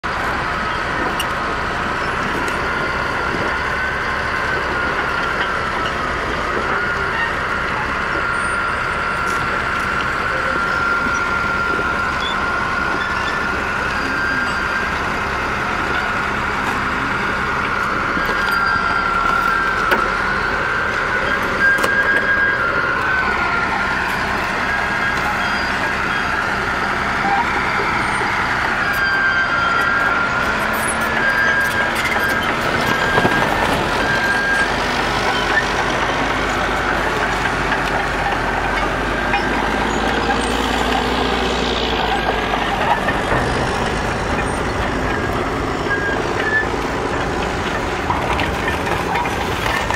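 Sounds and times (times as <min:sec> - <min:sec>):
bulldozer diesel engine whining: 0:00.0 - 0:49.9.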